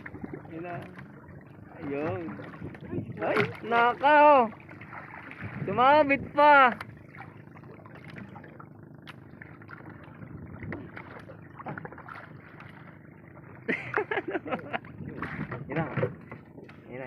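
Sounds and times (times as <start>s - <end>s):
water lapping against boat: 0.0s - 17.0s.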